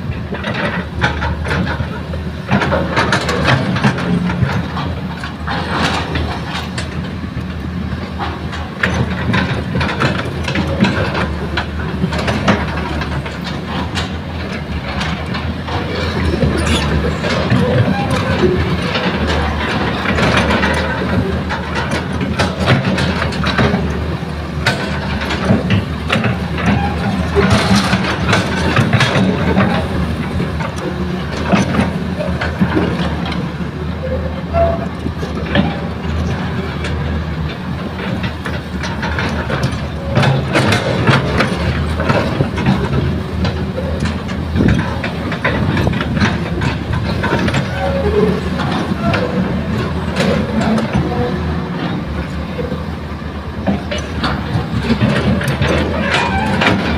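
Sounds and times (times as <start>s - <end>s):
excavator diesel engine under load: 0.0s - 56.9s.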